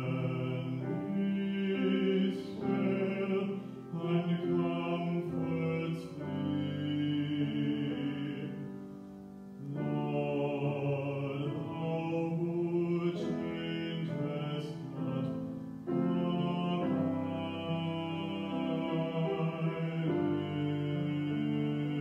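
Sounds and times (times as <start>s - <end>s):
man singing: 0.0s - 8.9s, 9.6s - 22.0s
grand piano accompaniment: 0.0s - 22.0s.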